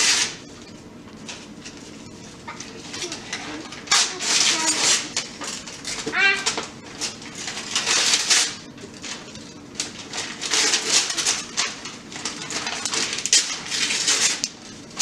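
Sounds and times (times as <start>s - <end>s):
wrapping paper tearing: 0.0s - 0.5s, 2.6s - 15.0s.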